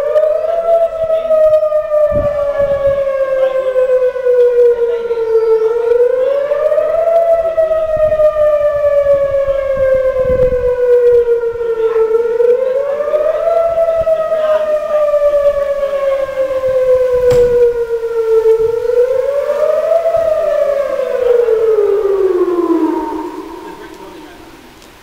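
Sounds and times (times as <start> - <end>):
warning siren wailing: 0.0 - 25.0.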